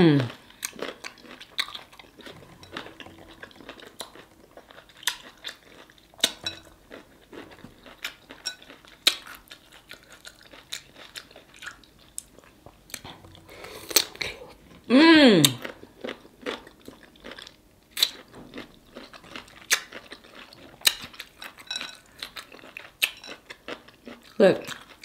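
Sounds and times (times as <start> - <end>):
person crunching and chewing: 0.3 - 14.8, 15.4 - 25.0.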